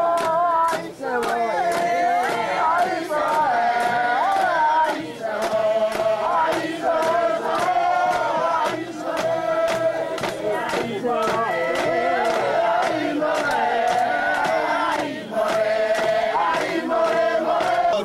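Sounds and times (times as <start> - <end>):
group chanting song: 0.0 - 18.0
percussive beats: 0.0 - 18.0.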